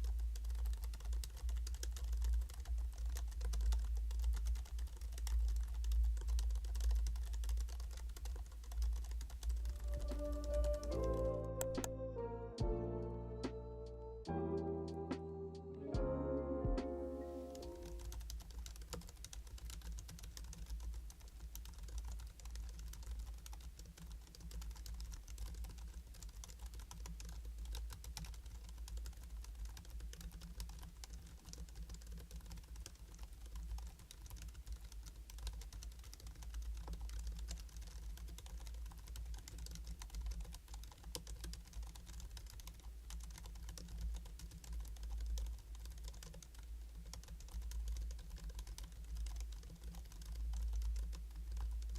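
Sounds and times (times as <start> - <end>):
keyboard keystroke clicks: 0.0 - 12.0, 16.7 - 51.9.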